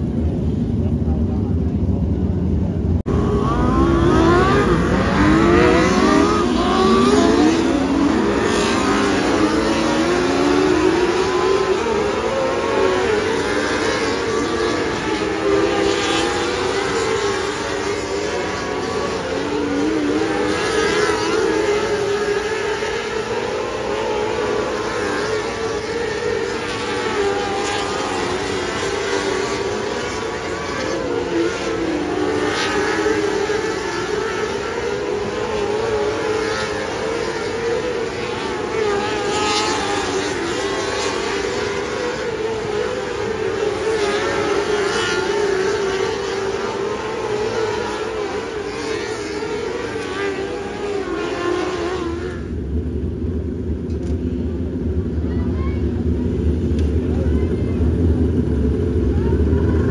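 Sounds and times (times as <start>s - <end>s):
racing car engines at high revs: 0.0s - 59.9s.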